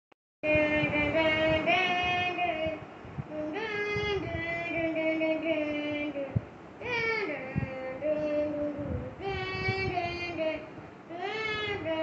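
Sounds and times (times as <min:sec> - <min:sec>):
high voice singing: 0:00.4 - 0:12.0.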